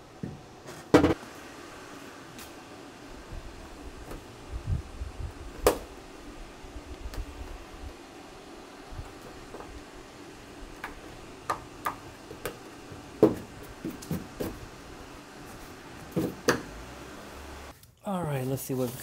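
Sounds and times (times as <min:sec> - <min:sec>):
faint steady hum: 0:00.0 - 0:18.4.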